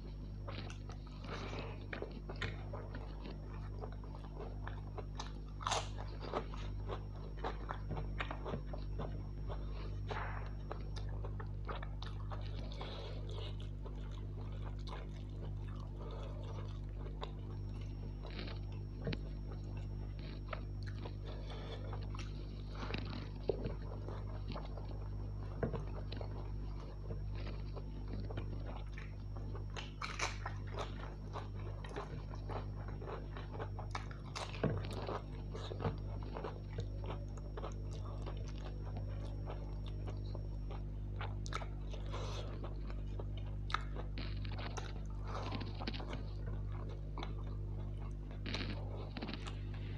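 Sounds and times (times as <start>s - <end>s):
person chewing food: 0.0s - 49.9s
steady low hum: 0.0s - 49.9s.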